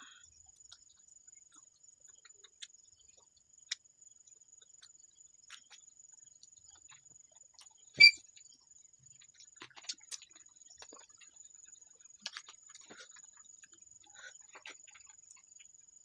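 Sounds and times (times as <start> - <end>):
chewing crunches and smacks: 0.0 - 16.0.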